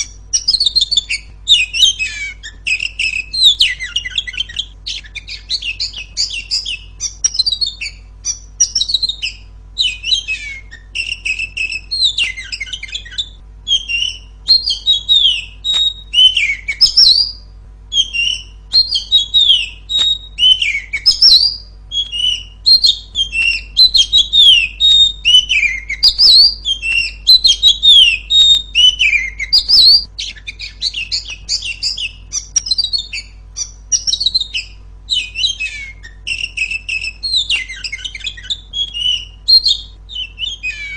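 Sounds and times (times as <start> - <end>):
bird singing whistles and chirps: 0.0 - 40.9.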